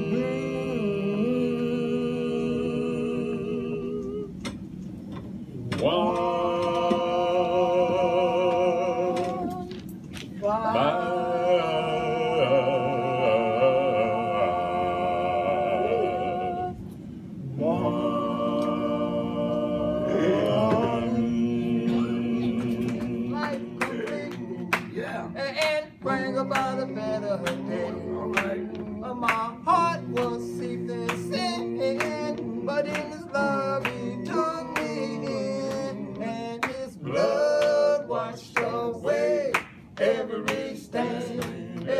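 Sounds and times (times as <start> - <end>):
men singing in harmony: 0.0 - 4.6, 5.7 - 9.7, 10.4 - 16.9, 17.5 - 41.9.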